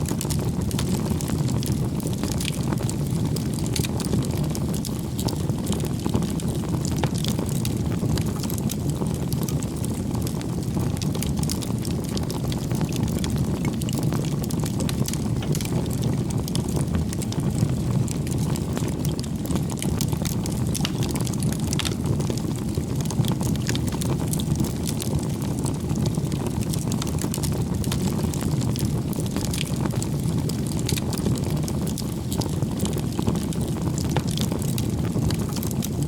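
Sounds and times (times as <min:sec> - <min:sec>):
fire crackling and popping: 0:00.0 - 0:36.0
low rush of flame: 0:00.0 - 0:36.0.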